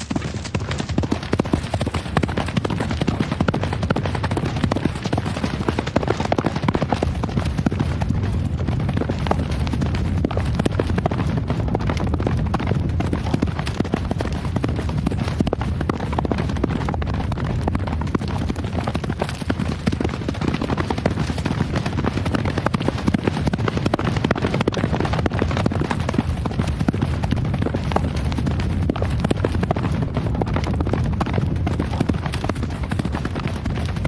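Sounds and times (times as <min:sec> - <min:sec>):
horse hooves galloping: 0:00.0 - 0:34.0.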